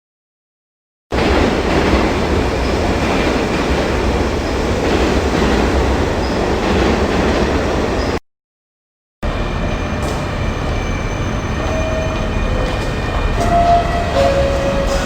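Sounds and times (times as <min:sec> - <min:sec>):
train rumbling on rails: 0:01.1 - 0:08.2, 0:09.2 - 0:15.0.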